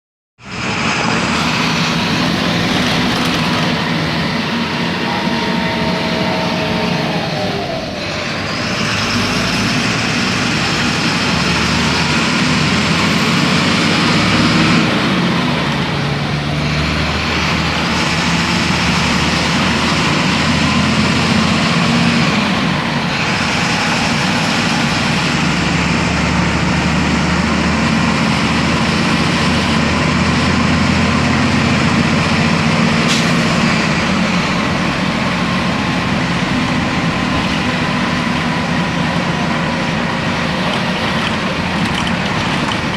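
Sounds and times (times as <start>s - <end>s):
diesel bus engine drone: 0.4s - 42.9s
gliding engine whine: 0.4s - 42.9s.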